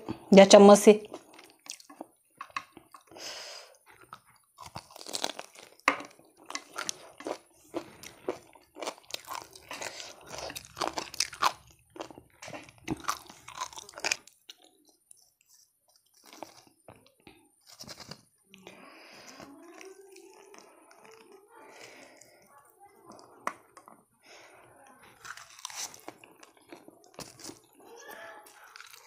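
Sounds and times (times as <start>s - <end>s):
crunchy chewing of fried food: 1.1s - 22.5s, 24.4s - 29.0s.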